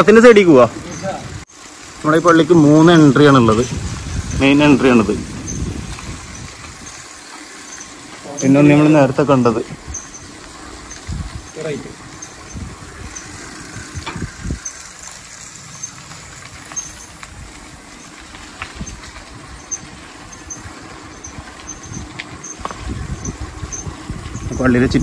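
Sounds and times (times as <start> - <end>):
bicycle tyre noise: 0.0 - 25.0
wind rumbling on microphone: 1.1 - 7.9, 9.6 - 25.0.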